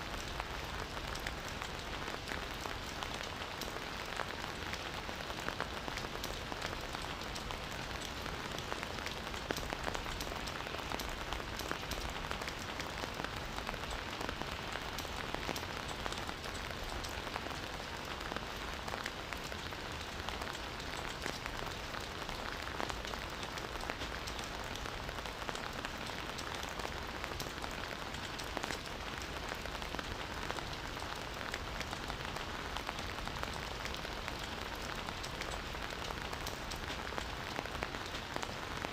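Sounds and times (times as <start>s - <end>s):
steady rainfall: 0.0s - 38.9s
raindrop ticks: 0.1s - 38.9s.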